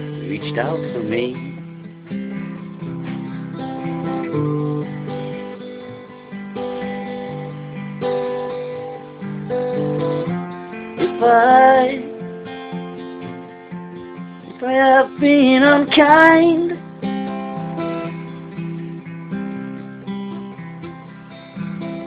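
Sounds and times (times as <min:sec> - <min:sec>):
acoustic guitar playing: 0:00.0 - 0:22.0.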